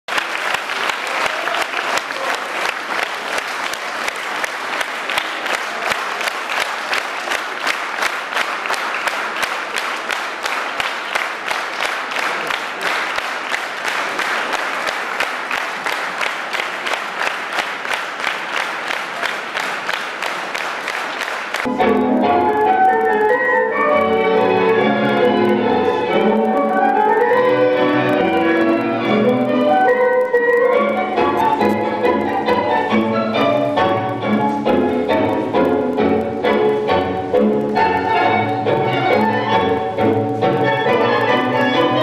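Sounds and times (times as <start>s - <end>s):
audience clapping in unison: 0.0s - 23.2s, 24.4s - 42.0s.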